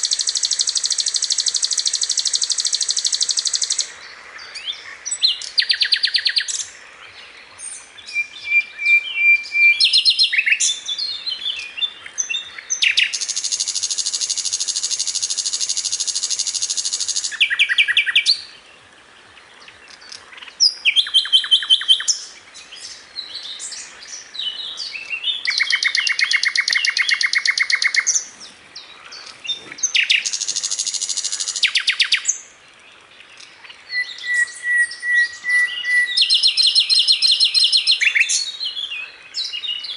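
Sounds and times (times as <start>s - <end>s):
flycatcher singing chirps and trills: 0.0s - 6.7s, 7.6s - 18.6s, 19.9s - 32.5s, 33.4s - 39.9s.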